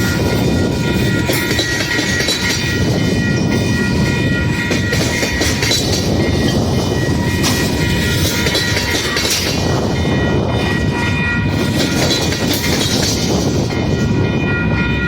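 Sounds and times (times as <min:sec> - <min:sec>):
diesel locomotive train rumbling by: 0:00.0 - 0:15.0
wind noise on microphone: 0:00.0 - 0:15.0.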